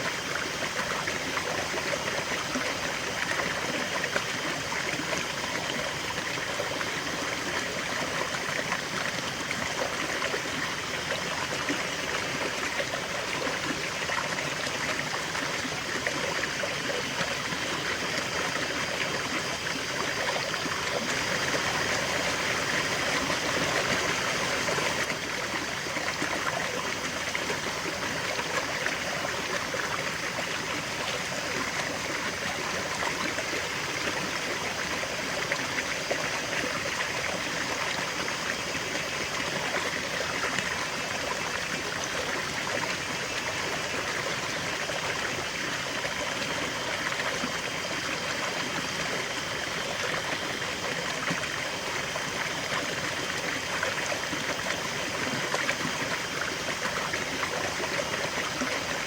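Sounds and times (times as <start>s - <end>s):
river water rushing over stones: 0.0s - 59.0s
water trickling and gurgling: 0.0s - 59.0s.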